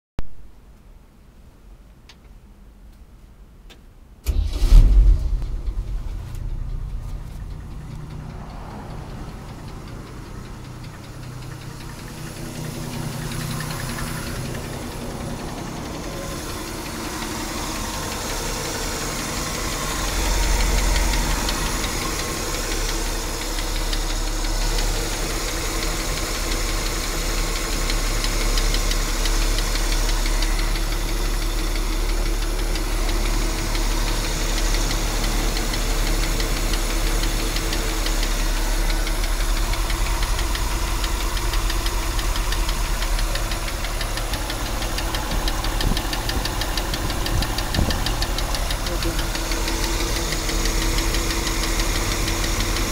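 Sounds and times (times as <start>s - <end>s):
car engine starting and running: 0.6s - 52.9s
engine grinding noise: 4.2s - 52.9s.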